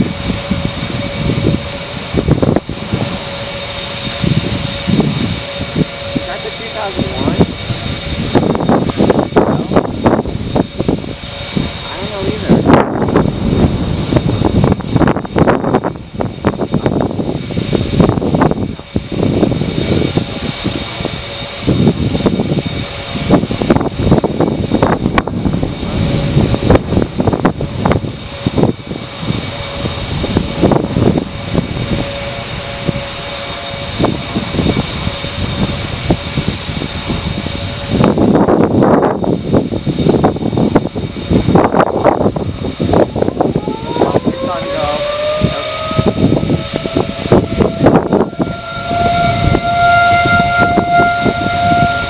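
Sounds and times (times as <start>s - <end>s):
wind gusting on microphone: 0.0s - 52.0s.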